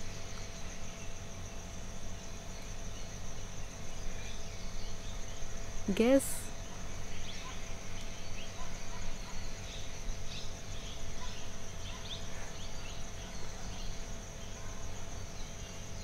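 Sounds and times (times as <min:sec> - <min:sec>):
crickets droning: 0:00.0 - 0:16.0.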